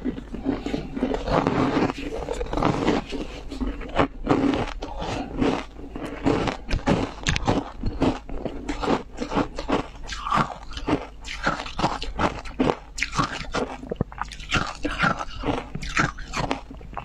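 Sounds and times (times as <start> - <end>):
chewing crunching ice: 0.0 - 17.0.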